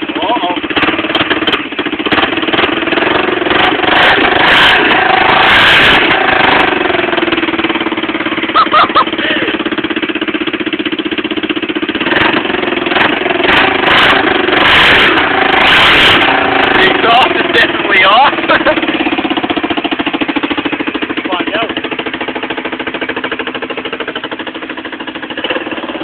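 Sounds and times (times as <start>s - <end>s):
atv engine idling loud: 0.0s - 26.0s.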